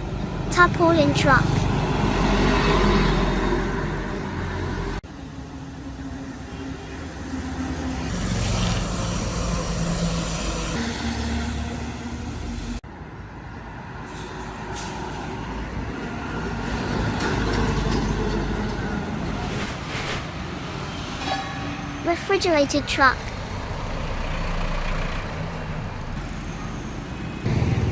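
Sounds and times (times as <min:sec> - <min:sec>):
road noise: 0:00.0 - 0:27.9.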